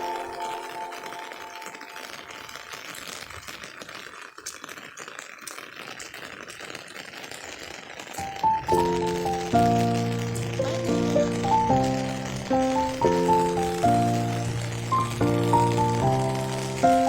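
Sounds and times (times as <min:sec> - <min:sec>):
rain pattering on an umbrella: 0:00.0 - 0:17.0.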